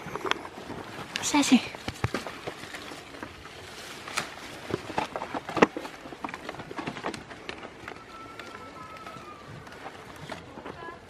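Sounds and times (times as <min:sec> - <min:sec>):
leaves rustling: 0:00.0 - 0:11.0
twigs snapping: 0:01.0 - 0:10.4.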